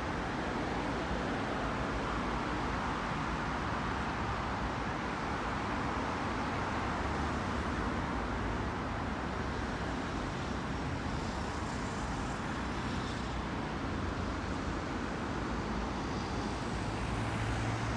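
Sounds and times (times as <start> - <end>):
road traffic rumble: 0.0 - 17.9.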